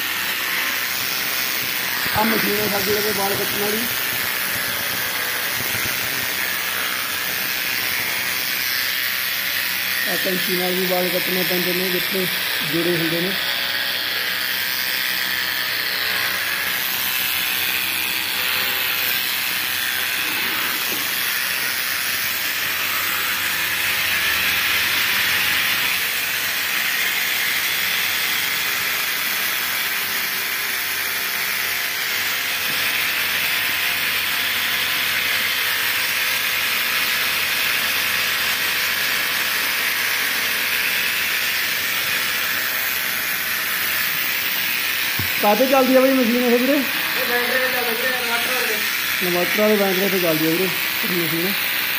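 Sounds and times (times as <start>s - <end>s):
electric clipper buzzing: 0.0s - 51.9s.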